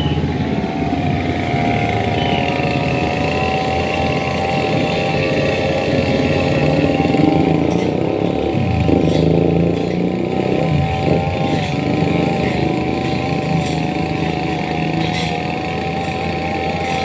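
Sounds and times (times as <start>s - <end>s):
constant whine: 0.0s - 17.0s
engine running: 0.0s - 17.0s.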